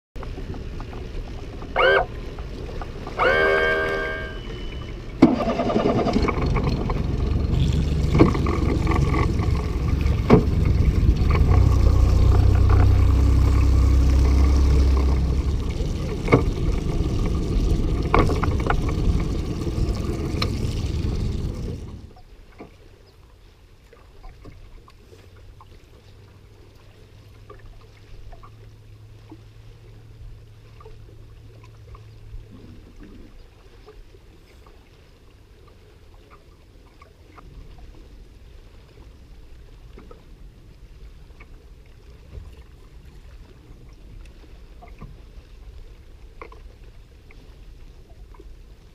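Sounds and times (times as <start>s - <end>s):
boat engine rumbling: 0.2s - 22.6s, 24.3s - 48.9s
water lapping: 0.2s - 48.9s.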